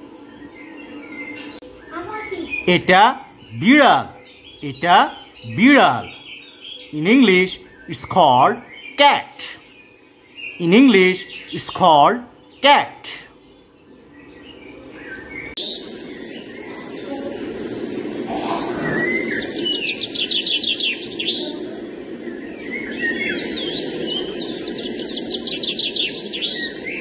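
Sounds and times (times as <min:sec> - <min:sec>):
birds chirping and trilling: 0:00.0 - 0:27.0
low background noise: 0:00.0 - 0:27.0.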